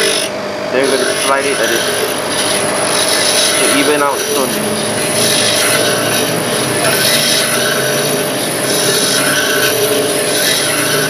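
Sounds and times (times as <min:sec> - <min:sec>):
bench grinder high whine: 0:00.0 - 0:11.0
grinding wheel scraping dresser: 0:00.0 - 0:11.0.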